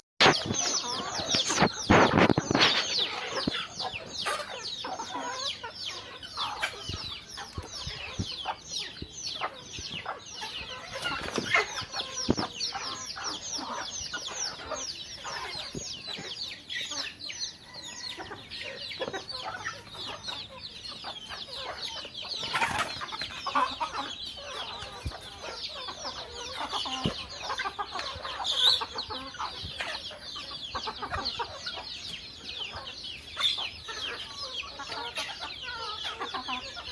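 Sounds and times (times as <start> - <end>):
chickens clucking and peeping: 0.2 - 36.9.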